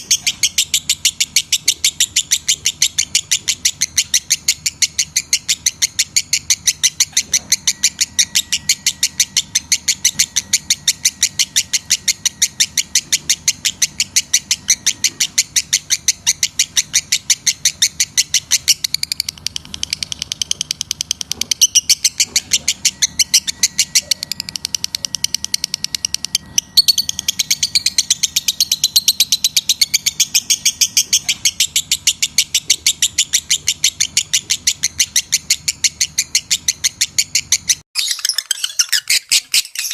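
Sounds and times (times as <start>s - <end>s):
lovebird high-pitched calls: 0.0s - 39.9s.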